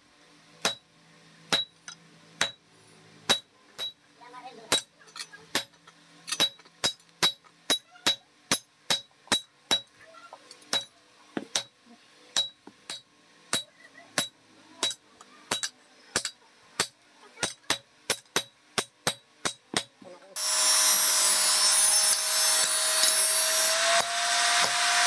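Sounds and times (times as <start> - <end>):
hammer striking metal on anvil: 0.6 - 0.9, 1.5 - 2.6, 3.3 - 4.0, 4.7 - 4.9, 5.5 - 9.9, 10.7 - 11.8, 12.4 - 24.8.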